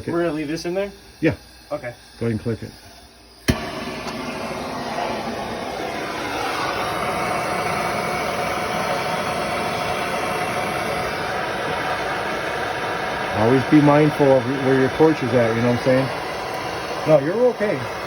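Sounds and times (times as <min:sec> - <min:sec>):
torch flame hissing: 0:00.0 - 0:18.0
torch igniter click: 0:02.0 - 0:17.2.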